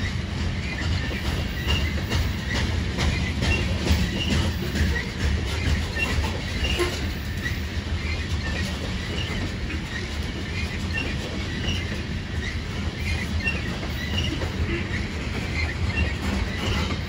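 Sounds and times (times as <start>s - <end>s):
freight train wheels rumbling: 0.0s - 17.0s
high wheel squeaks: 0.0s - 17.0s.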